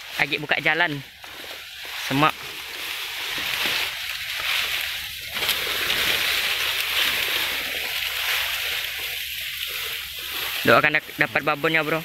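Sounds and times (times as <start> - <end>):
grass and brush rustling: 0.0 - 12.0.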